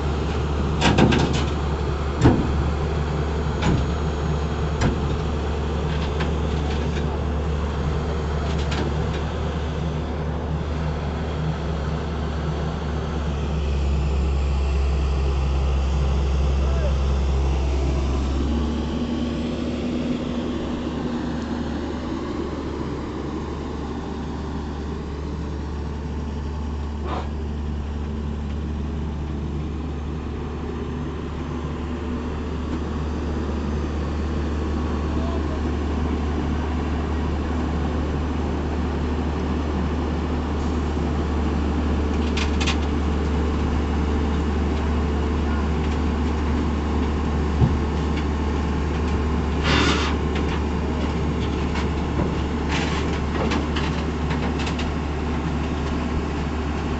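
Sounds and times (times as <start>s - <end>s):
diesel engine humming: 0.0s - 56.9s.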